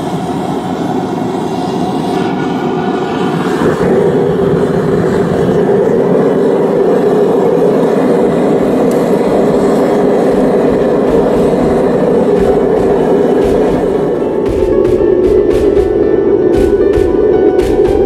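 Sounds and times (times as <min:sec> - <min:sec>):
gas forge burners rushing: 0:00.0 - 0:18.0.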